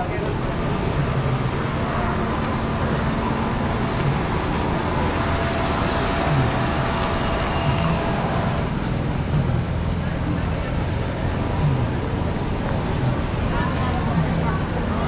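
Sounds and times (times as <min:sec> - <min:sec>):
motor traffic rumble: 0:00.0 - 0:15.0
street noise: 0:00.0 - 0:15.0.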